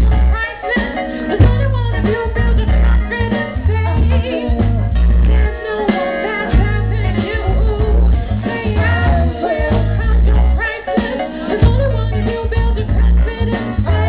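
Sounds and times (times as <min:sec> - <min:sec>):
heavy bass line: 0:00.0 - 0:00.4, 0:01.4 - 0:05.7, 0:06.4 - 0:14.0
live band playing: 0:00.0 - 0:14.0
woman singing lead: 0:00.0 - 0:14.0.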